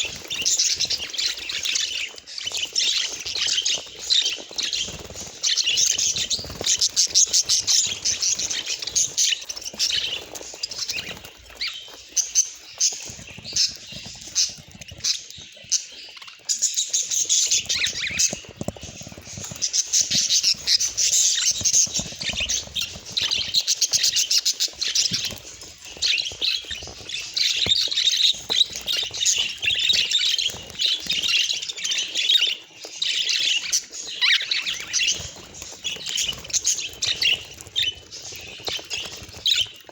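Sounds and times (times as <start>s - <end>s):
budgerigars chattering: 0.0s - 39.8s.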